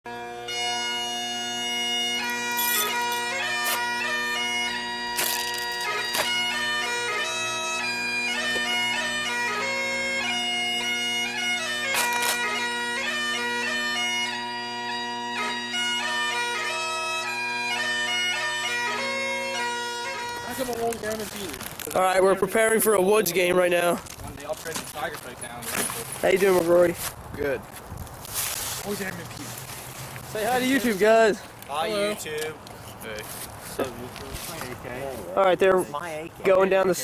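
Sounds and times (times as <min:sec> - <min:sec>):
bagpipe music: 0:00.0 - 0:37.0.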